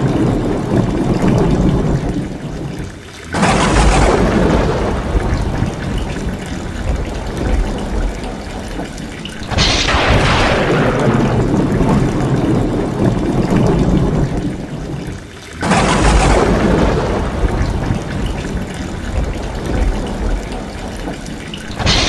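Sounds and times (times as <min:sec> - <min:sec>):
rain pouring off roof tiles: 0:00.0 - 0:22.0
thunder crack and rumble: 0:00.0 - 0:22.0.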